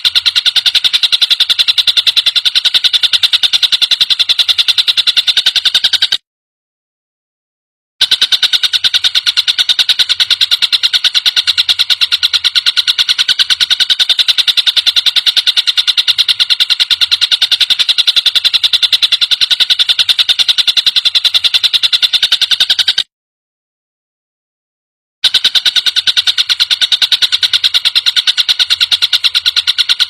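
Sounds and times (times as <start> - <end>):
kingfisher rattling trill: 0.0 - 6.2, 8.0 - 23.0, 25.2 - 30.0.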